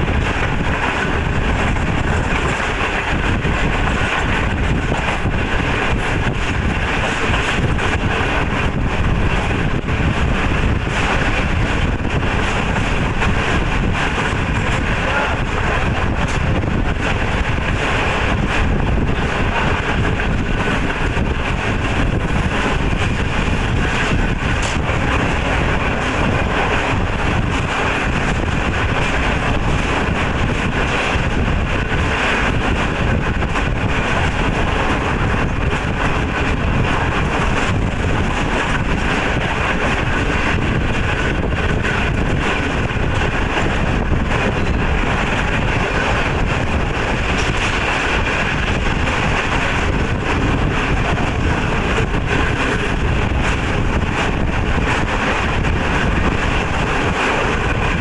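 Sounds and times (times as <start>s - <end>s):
train wheels rumbling on rails: 0.0s - 58.0s
wind buffeting microphone: 0.0s - 58.0s.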